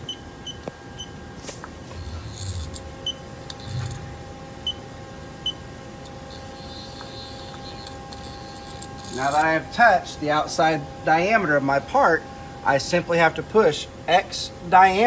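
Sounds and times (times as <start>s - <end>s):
lathe humming: 1.8s - 14.5s.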